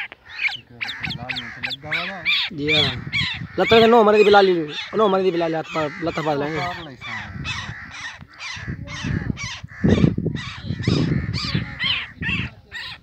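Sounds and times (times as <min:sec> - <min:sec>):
bird calling harshly: 0:00.0 - 0:13.0.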